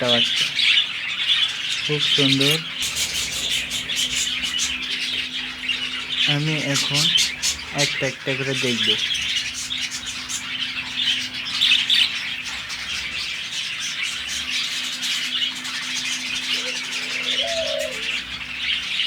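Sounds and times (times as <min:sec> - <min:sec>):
budgerigars chattering and chirping: 0:00.0 - 0:19.0
faint steady hum: 0:00.0 - 0:19.0.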